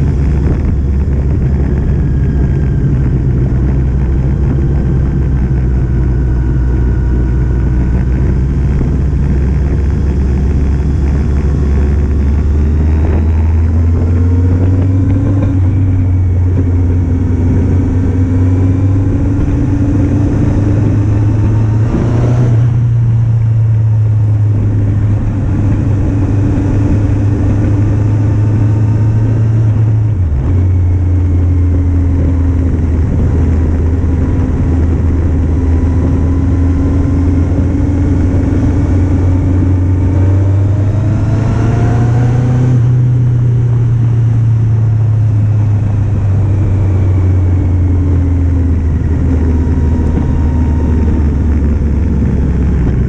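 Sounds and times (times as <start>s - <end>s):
motorcycle engine running: 0.0s - 53.0s
steady rush of noise: 0.0s - 53.0s.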